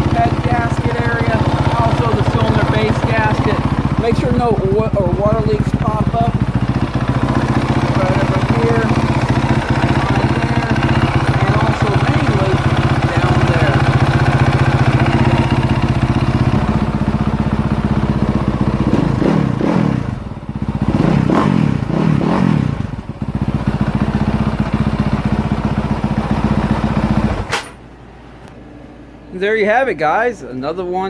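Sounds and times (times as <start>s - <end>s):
motorcycle engine idling and revving: 0.0s - 27.5s.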